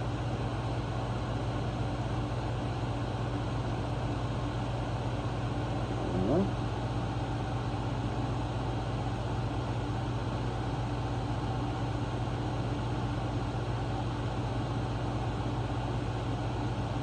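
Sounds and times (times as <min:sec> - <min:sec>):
air conditioner and fan humming: 0:00.0 - 0:17.0.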